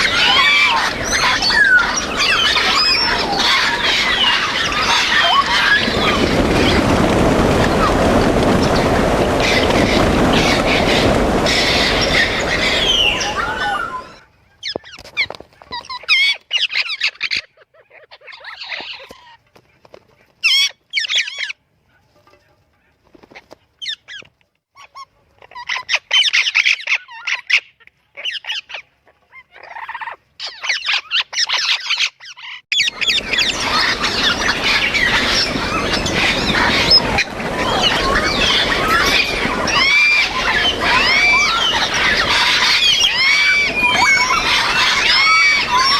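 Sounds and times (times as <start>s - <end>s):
parrots squawking and whistling: 0.0s - 6.8s, 9.4s - 15.0s, 15.7s - 19.4s, 23.8s - 45.9s.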